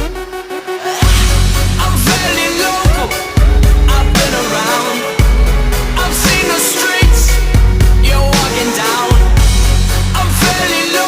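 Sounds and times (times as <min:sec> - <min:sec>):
dubstep music with bass drop: 0:00.0 - 0:11.0.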